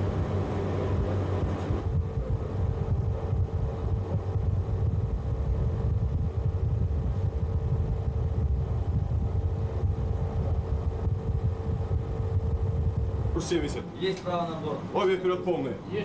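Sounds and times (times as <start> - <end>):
mid-pitched machinery hum: 0.0 - 16.0
ship machinery low rumble: 0.0 - 16.0.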